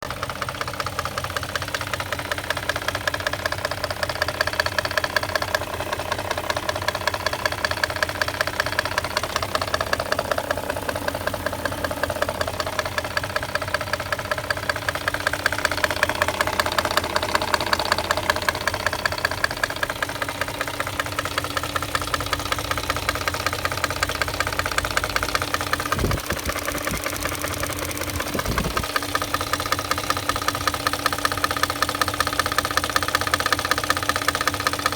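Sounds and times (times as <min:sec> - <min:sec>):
car engine running: 0:00.0 - 0:34.9
fast regular engine knocking: 0:00.0 - 0:34.9.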